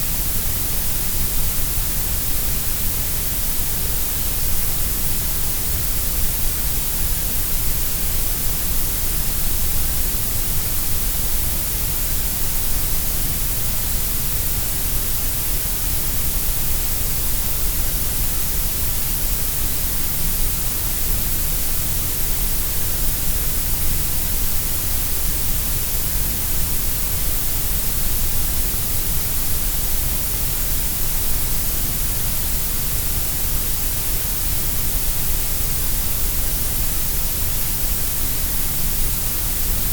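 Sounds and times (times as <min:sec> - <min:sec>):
synthesised grey noise hiss: 0:00.0 - 0:39.9.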